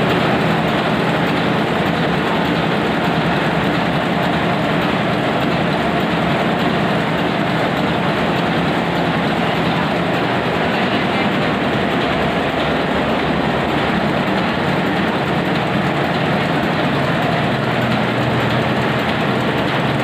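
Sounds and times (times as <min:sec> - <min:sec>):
marine diesel engine running: 0:00.0 - 0:20.0.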